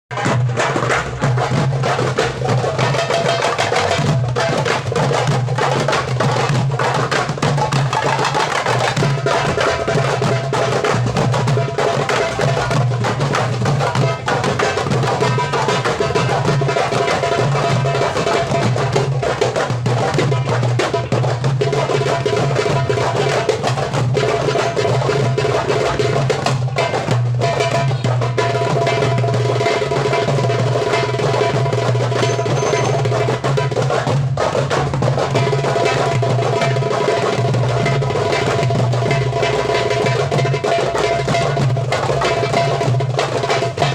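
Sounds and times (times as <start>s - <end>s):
goblet drums in fast rhythm: 0.1s - 43.9s.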